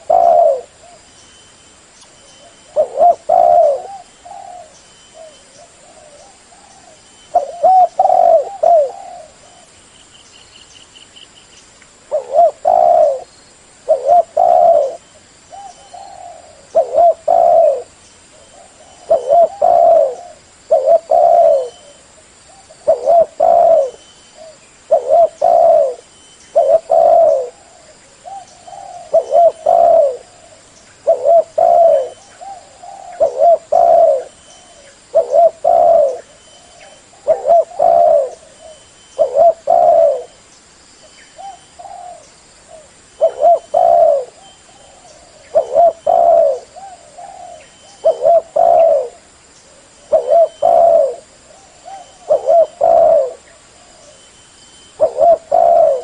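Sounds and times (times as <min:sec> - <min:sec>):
dove cooing: 0:00.0 - 0:01.1, 0:02.4 - 0:09.7, 0:12.1 - 0:40.4, 0:41.3 - 0:56.0.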